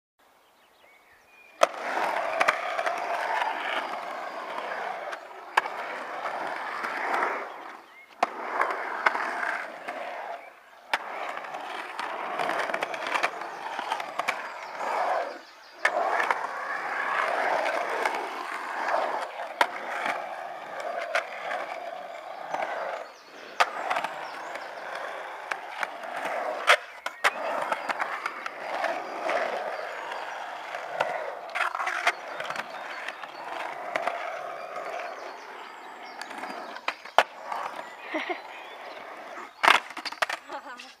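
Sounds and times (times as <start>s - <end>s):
skateboard wheels rolling on concrete: 0.9s - 41.0s
skateboard clacking on concrete: 1.6s - 41.0s.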